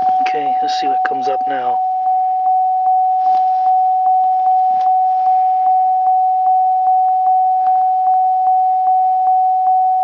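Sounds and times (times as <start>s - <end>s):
car warning chime dinging: 0.0s - 10.0s.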